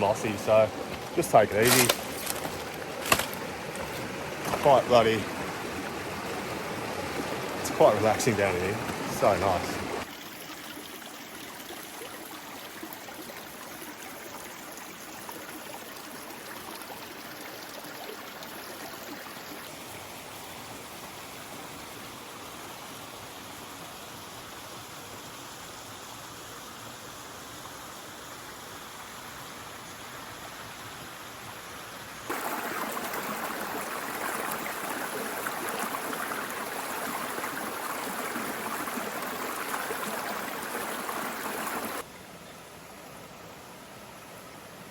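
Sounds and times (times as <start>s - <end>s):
creek water rushing over rocks: 0.0s - 26.4s, 28.0s - 42.2s.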